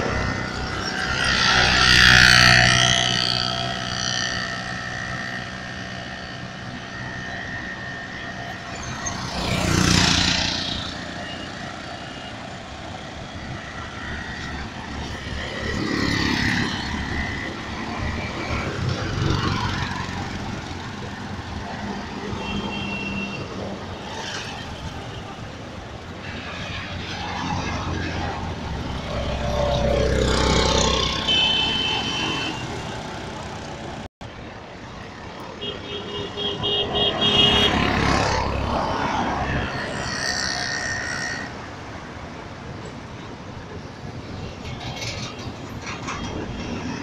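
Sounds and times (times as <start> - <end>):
traffic hum: 0.0 - 47.0
vehicles passing: 0.0 - 47.0.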